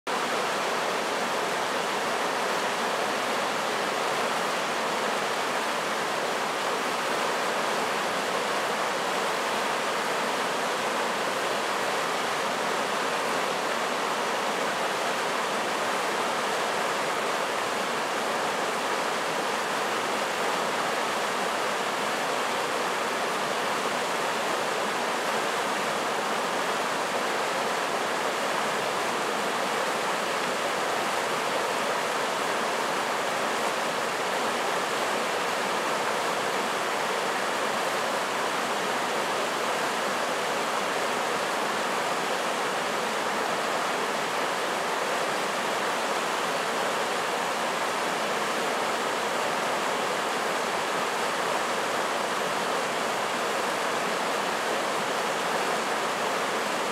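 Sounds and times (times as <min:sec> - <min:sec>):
water rushing over rocks: 0:00.1 - 0:56.9.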